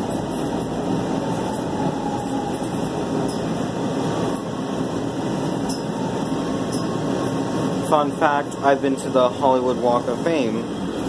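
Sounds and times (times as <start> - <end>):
subway train running: 0.0 - 11.0.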